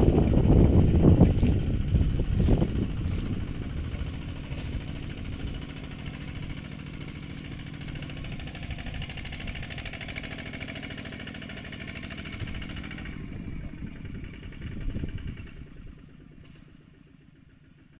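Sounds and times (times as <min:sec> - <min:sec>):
tractor engine chugging: 0:00.0 - 0:17.9.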